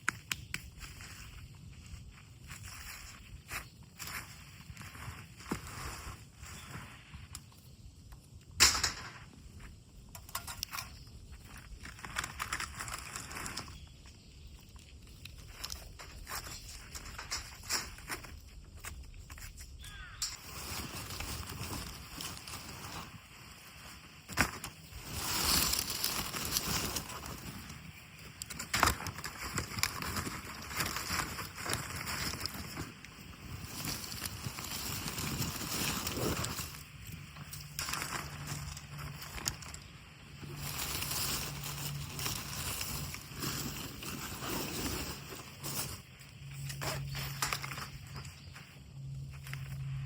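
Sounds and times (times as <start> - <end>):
rustling and handling noises: 0.0 - 50.0
wind: 0.0 - 50.0.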